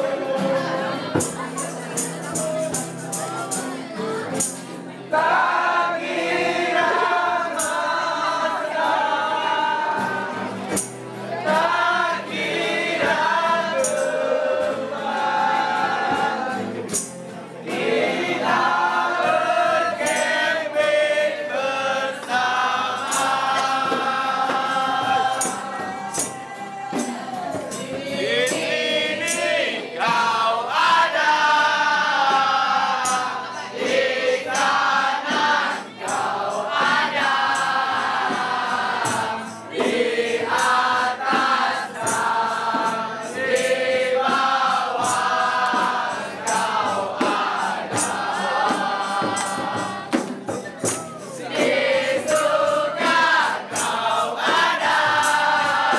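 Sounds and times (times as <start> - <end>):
choir singing: 0.0 - 17.0, 17.6 - 55.9.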